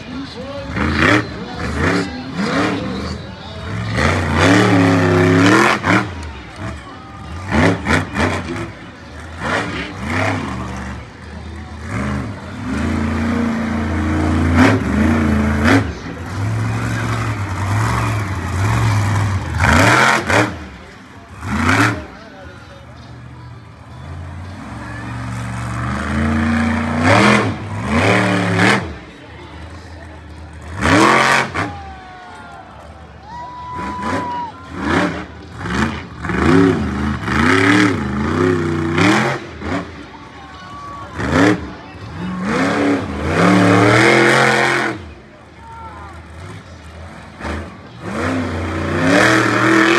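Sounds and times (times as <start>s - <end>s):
monster truck engine revving: 0.0s - 40.3s, 41.0s - 49.9s.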